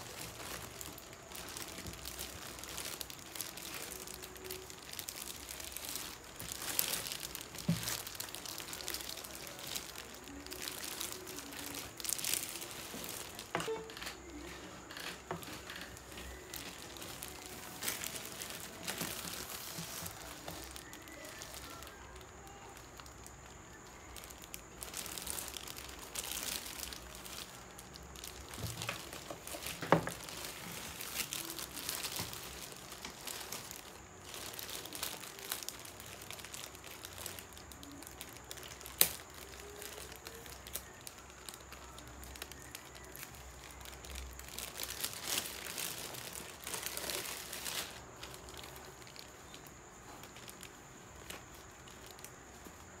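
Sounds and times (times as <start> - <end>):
plastic wrapping crinkling: 0.0 - 53.0.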